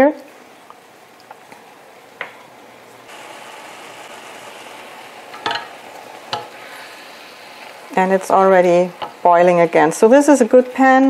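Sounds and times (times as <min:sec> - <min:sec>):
vegetables sizzling in a pan: 0:01.8 - 0:11.0.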